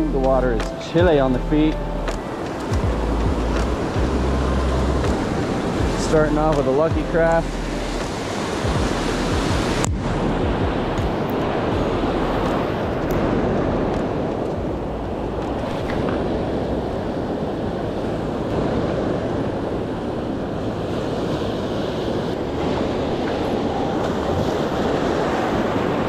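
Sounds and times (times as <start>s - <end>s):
ocean surf washing in: 0.0s - 26.0s
wind buffeting microphone: 0.0s - 26.0s.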